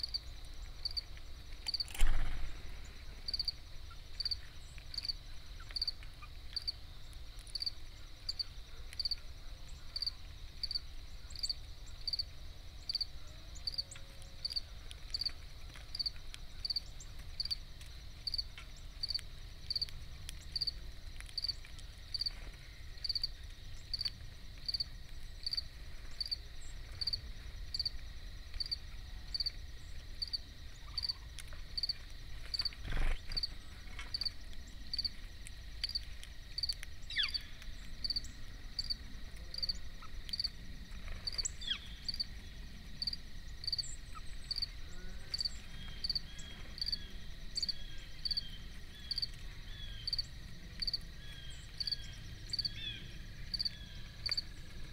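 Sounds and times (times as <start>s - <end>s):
cricket chirping: 0.0s - 54.9s
high insect trill: 0.0s - 54.9s.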